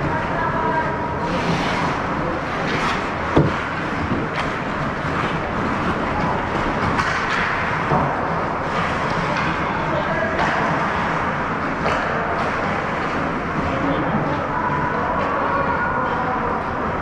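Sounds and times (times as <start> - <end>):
ice rink ambience: 0.0 - 17.0.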